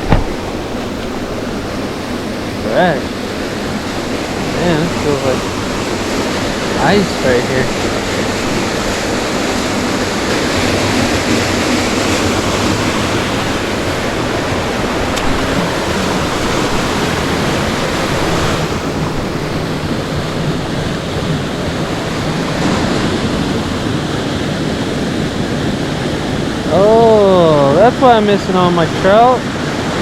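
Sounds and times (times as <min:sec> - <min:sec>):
fast-flowing creek water rushing: 0:00.0 - 0:30.0.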